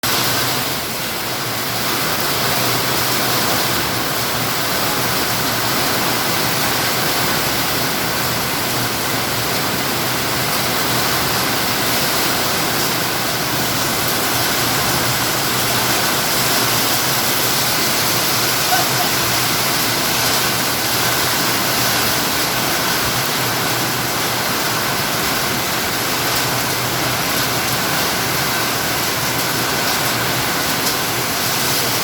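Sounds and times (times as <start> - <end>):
heavy rain hissing: 0.0 - 32.0.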